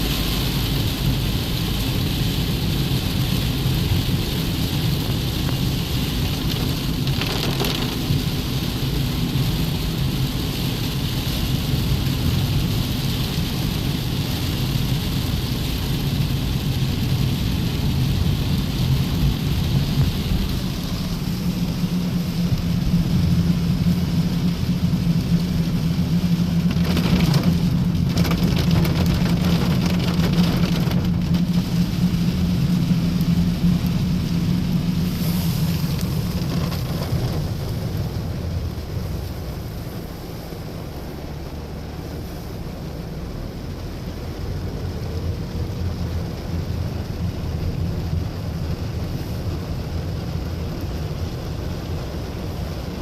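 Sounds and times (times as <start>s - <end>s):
continuous low rumble: 0.0s - 53.0s
steady rain falling: 0.0s - 53.0s.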